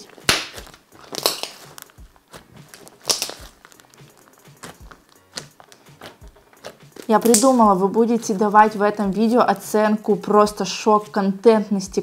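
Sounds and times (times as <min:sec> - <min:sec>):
slime with kibble crackling: 0:00.0 - 0:10.8.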